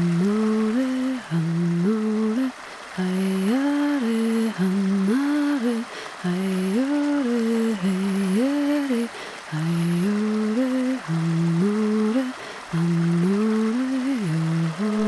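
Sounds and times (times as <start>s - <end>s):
person humming a lullaby melody: 0.0s - 15.0s.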